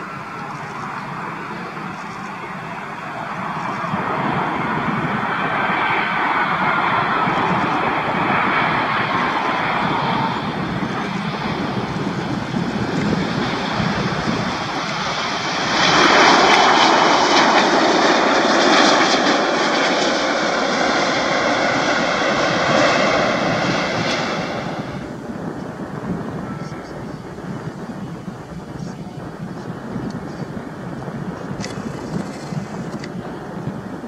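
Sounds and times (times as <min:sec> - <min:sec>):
jet engine high whine: 0:00.0 - 0:34.0.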